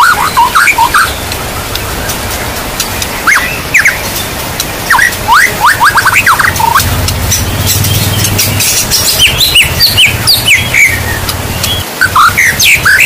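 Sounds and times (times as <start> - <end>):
heavy rain: 0.0 - 13.0
songbird whistling: 0.0 - 13.0.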